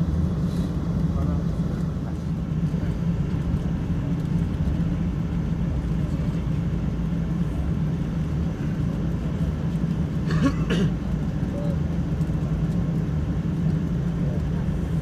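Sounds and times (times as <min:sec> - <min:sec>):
aircraft cabin rumble: 0:00.0 - 0:15.0
constant low hum: 0:00.0 - 0:15.0.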